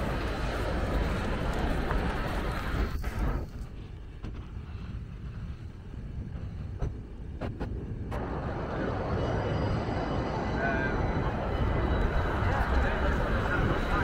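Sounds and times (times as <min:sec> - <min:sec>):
city traffic rumble: 0:00.0 - 0:14.0
street noise: 0:00.0 - 0:14.0.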